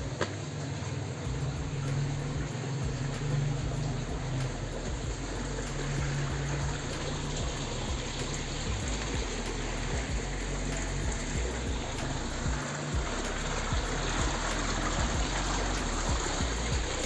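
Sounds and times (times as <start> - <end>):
water rushing through channel: 0.0 - 17.0.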